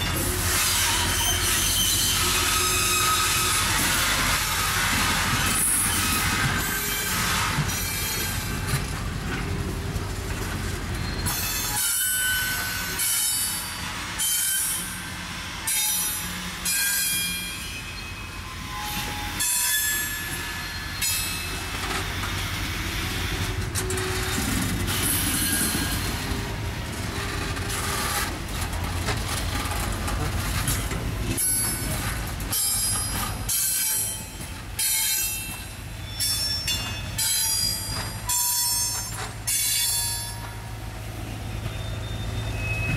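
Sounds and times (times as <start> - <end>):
train wheels squealing: 0.0 - 8.8, 10.9 - 28.4, 31.2 - 42.9
freight cars rumbling: 0.0 - 14.2, 20.3 - 34.8, 35.4 - 42.9.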